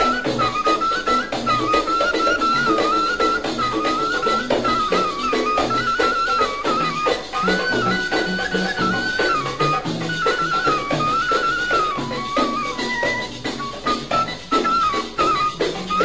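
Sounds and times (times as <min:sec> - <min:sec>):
ornamented lead instrument melody: 0:00.0 - 0:16.0
steady drum beat: 0:00.0 - 0:16.0.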